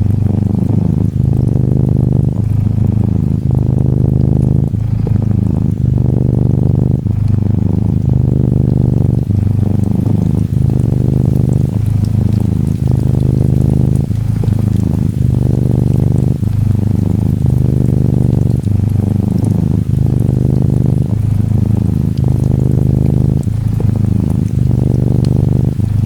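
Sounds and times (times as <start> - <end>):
gentle rain pattering: 0.0 - 26.0
kitten purring: 0.0 - 26.0.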